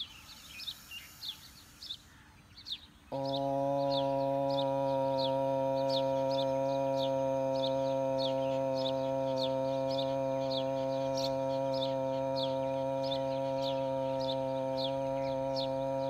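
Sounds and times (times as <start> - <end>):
steady low drone: 3.1 - 16.0.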